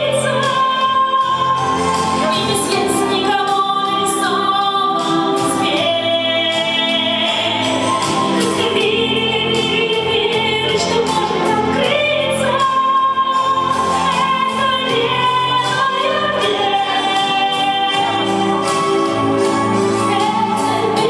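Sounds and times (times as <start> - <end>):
backing music with a beat: 0.0 - 21.0
woman singing into a microphone: 0.0 - 21.0.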